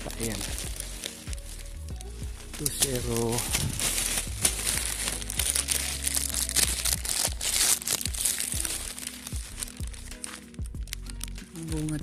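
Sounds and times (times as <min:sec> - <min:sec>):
plastic bag crinkling: 0:00.0 - 0:12.0
soft background music: 0:00.0 - 0:12.0.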